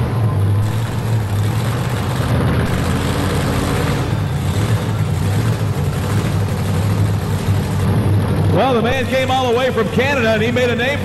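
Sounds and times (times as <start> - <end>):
truck engine idling loudly: 0.0 - 11.0.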